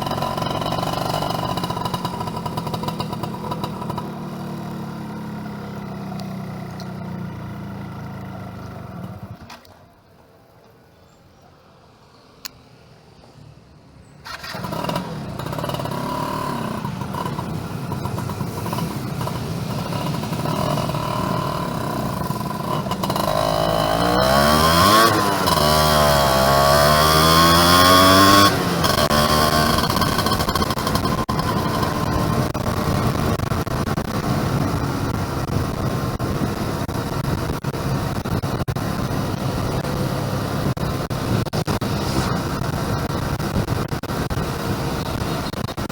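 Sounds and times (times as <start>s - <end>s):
two-stroke motorcycle engine: 0.0s - 9.5s, 14.3s - 45.9s.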